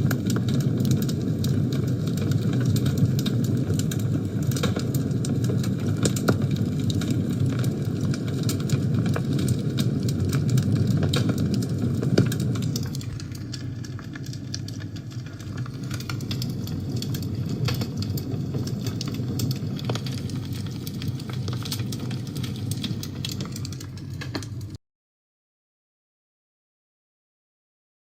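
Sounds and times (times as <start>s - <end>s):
fire crackling and popping: 0.0s - 24.8s.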